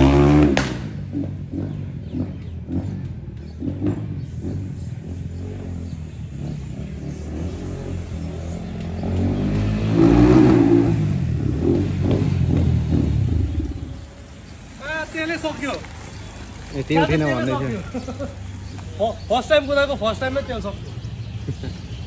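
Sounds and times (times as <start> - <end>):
dirt bike engine revving: 0.0 - 21.5.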